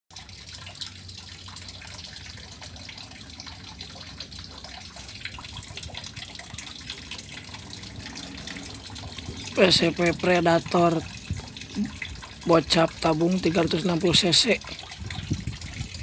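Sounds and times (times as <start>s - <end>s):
water splashing into a pond: 0.1s - 16.0s.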